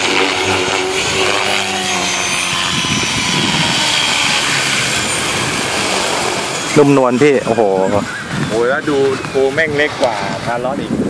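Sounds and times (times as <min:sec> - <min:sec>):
model helicopter humming and whining: 0:00.0 - 0:11.0.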